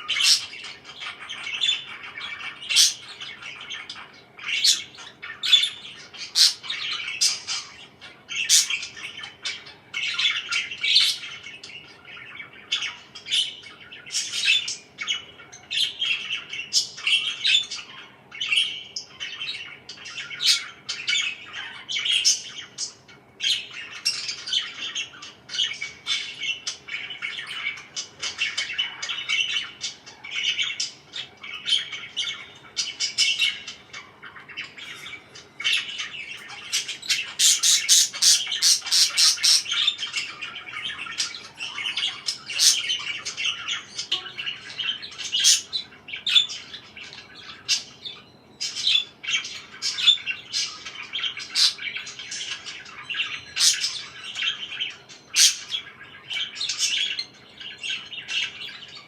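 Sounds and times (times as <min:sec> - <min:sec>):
parakeets chirping and squawking: 0:00.0 - 0:59.0.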